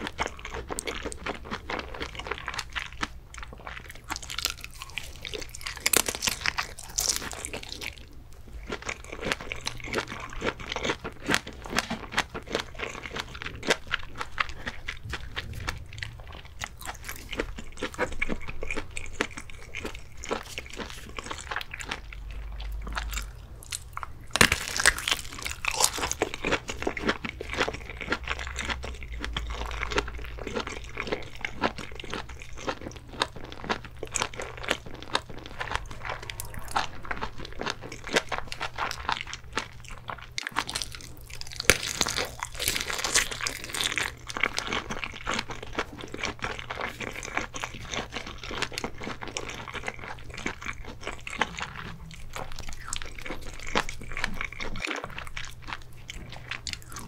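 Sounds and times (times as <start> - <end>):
biting and chewing food: 0.0 - 57.0
loud crunching: 9.0 - 39.3, 40.5 - 57.0.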